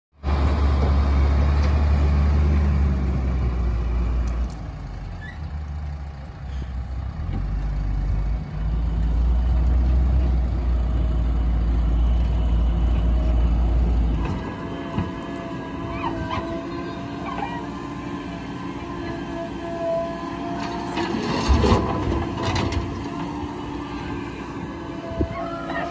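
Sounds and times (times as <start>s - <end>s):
truck diesel engine rumbling: 0.2s - 25.9s.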